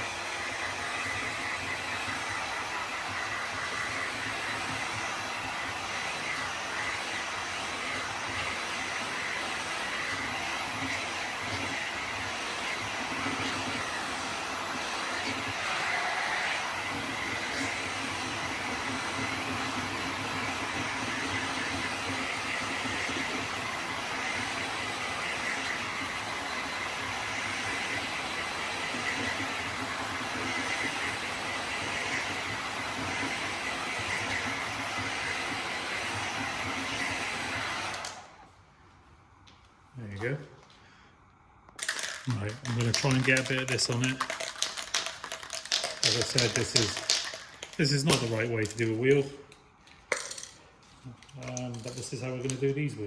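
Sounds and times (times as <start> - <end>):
heat gun blowing: 0.0 - 38.5, 41.8 - 49.6.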